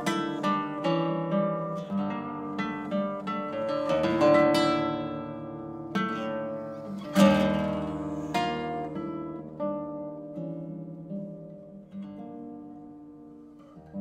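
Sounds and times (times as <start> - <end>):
classical guitar chords: 0.0 - 14.0.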